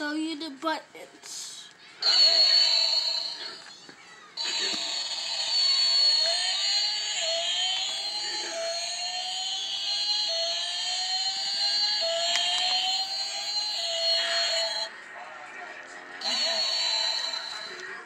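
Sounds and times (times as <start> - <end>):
steady high electronic tone: 2.0 - 14.9, 16.2 - 18.0
toy car electronic engine whine: 2.0 - 15.0, 16.2 - 18.0.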